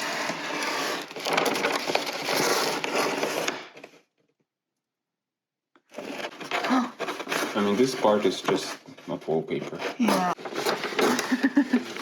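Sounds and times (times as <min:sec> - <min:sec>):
paper and dry wood crackling: 0:00.0 - 0:03.9, 0:05.9 - 0:12.0.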